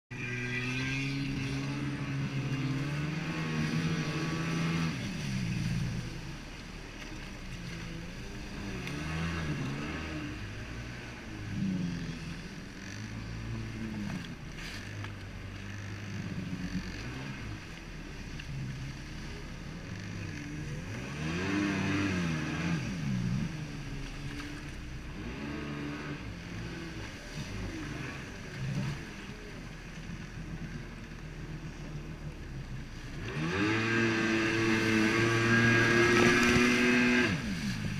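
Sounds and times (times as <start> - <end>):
jet ski engine running: 0.1 - 37.9.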